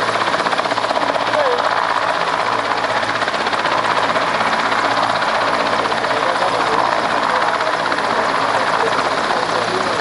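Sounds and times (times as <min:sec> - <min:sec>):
helicopter engine noise: 0:00.0 - 0:10.0
helicopter rotor beating: 0:00.0 - 0:10.0.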